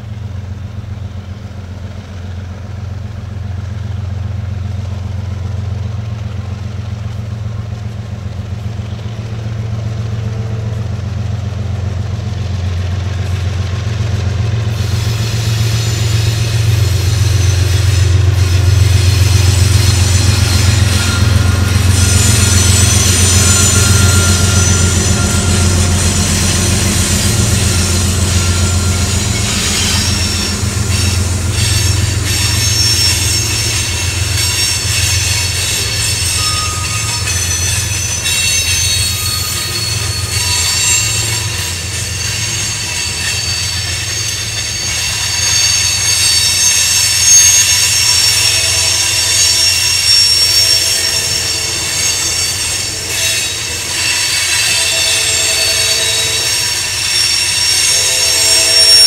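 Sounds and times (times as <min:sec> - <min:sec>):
low train rumble: 0:00.0 - 0:59.0
train wheels squealing: 0:03.4 - 0:59.0.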